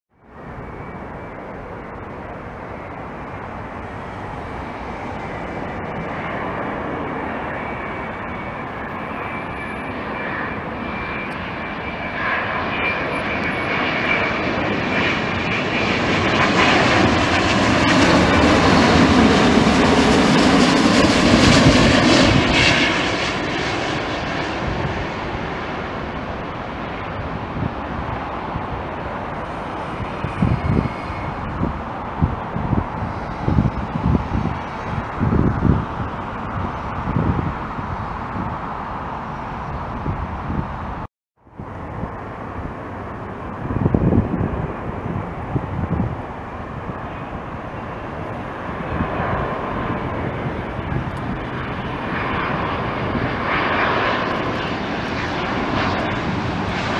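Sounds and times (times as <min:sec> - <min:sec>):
faint high turbofan whine: 0:00.2 - 0:56.9
jet airliner passing overhead: 0:00.2 - 0:56.9.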